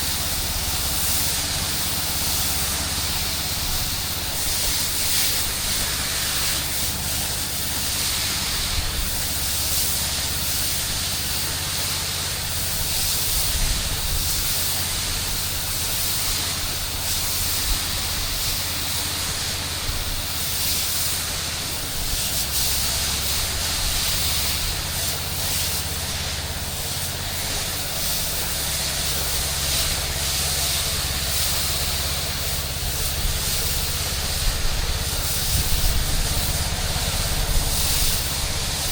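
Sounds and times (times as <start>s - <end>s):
low engine drone: 0.0s - 38.9s
spraying water hiss: 0.0s - 38.9s.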